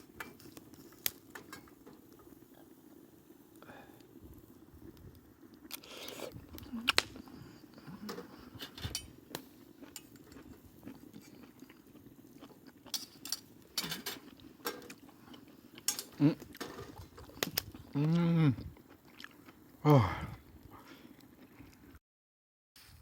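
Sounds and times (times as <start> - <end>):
quiet chewing: 3.6 - 22.0.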